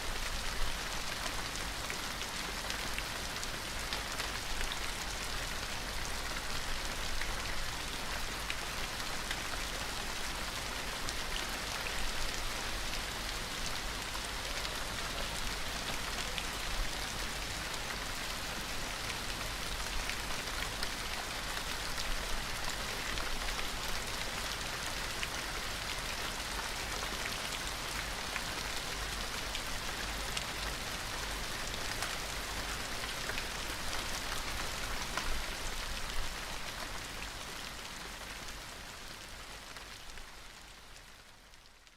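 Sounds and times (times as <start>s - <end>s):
steady rain patter: 0.0s - 41.9s.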